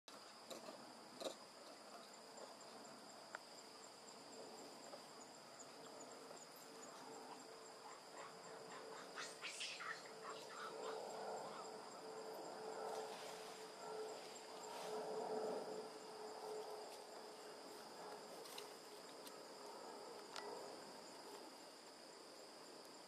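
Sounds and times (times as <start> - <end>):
insect chorus: 0.1 - 23.0.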